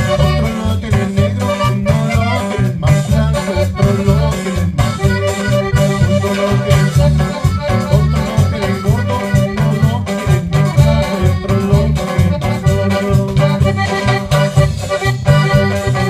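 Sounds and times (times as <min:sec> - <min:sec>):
accordion melody: 0:00.0 - 0:16.0
bass line: 0:00.0 - 0:16.0
percussion hits: 0:00.0 - 0:16.0.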